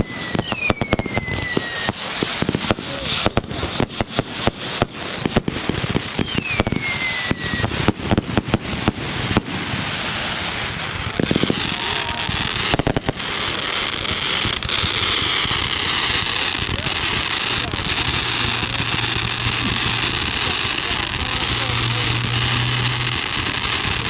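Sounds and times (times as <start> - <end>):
falling firework whistle: 0.0 - 24.0
fireworks bangs and pops: 0.0 - 24.0
fireworks crackling: 0.0 - 24.0.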